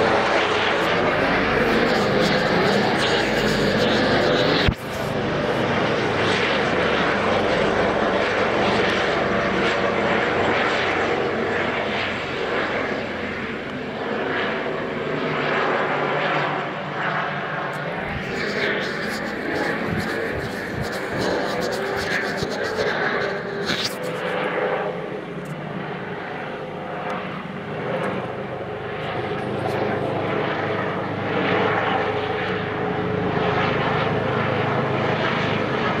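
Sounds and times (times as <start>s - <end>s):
helicopter engine and rotor noise: 0.0s - 36.0s.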